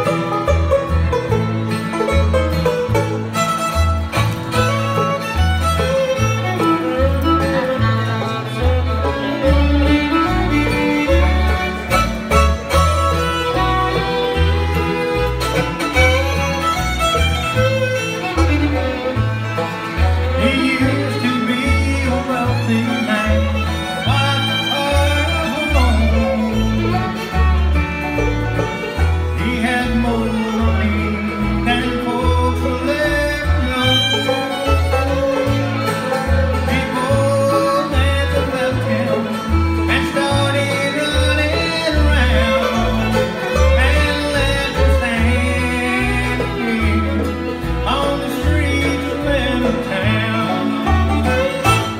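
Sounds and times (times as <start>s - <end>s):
acoustic guitar: 0.0s - 51.9s
banjo: 0.0s - 51.9s
fiddle bowing melody: 0.0s - 51.9s
upright bass low notes: 0.0s - 51.9s.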